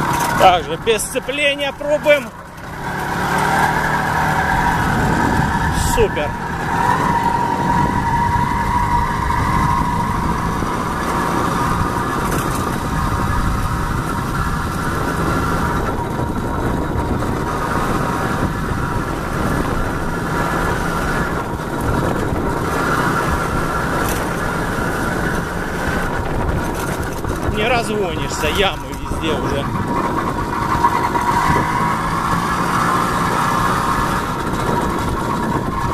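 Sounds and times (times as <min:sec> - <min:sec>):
moped engine running: 0:00.0 - 0:35.9.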